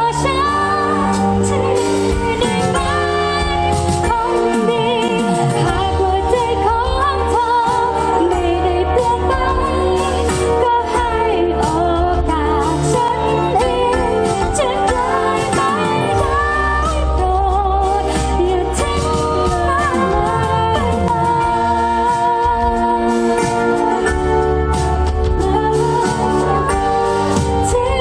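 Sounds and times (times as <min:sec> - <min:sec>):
band playing: 0:00.0 - 0:28.0
woman singing into microphone: 0:00.0 - 0:28.0.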